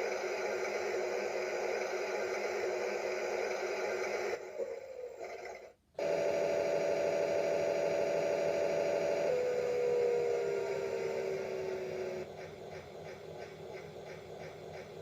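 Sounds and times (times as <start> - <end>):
toy washing machine humming: 0.0 - 15.0.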